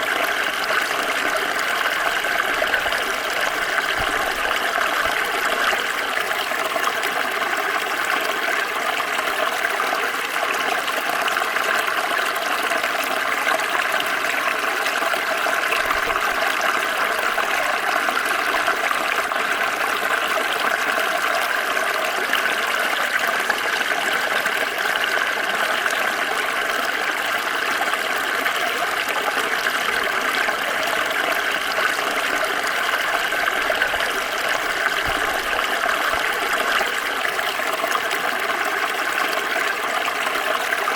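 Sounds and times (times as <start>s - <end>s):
stream splashing over stones: 0.0s - 40.9s.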